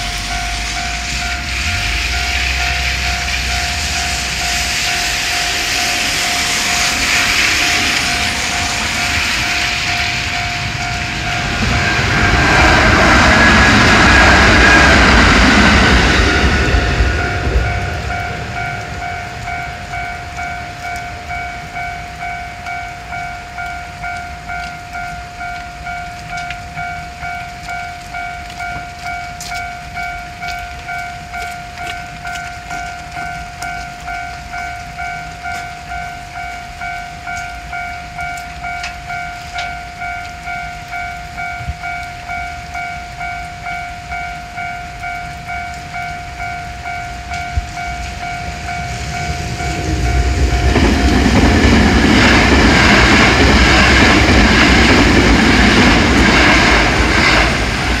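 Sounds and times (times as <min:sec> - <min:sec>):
railroad crossing warning bell: 0:00.0 - 0:58.0
train passing: 0:00.0 - 0:58.0.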